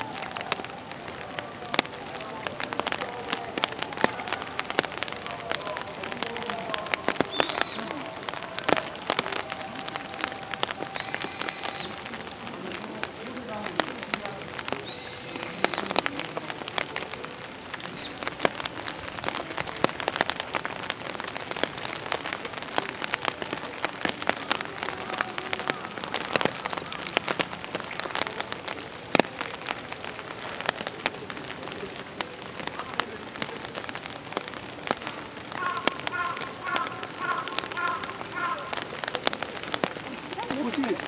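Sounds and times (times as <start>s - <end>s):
drips and splats: 0.0s - 41.0s
rain on hard surfaces: 0.0s - 41.0s.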